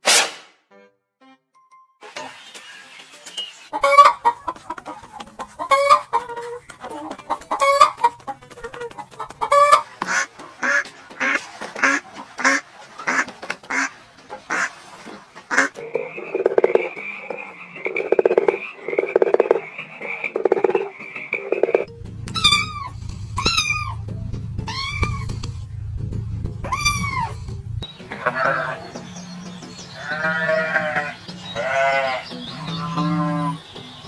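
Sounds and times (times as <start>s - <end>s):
chickens clucking: 2.1s - 22.5s, 26.6s - 34.0s.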